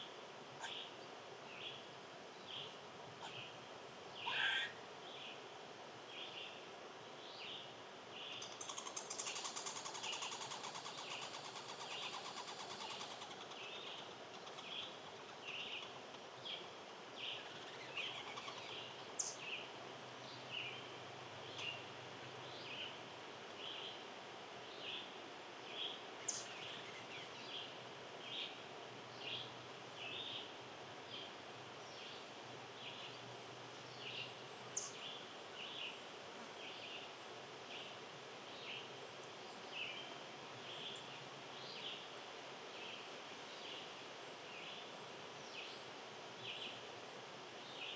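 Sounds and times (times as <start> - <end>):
small birds chirping: 0.0 - 47.9
steady outdoor hiss: 0.0 - 47.9.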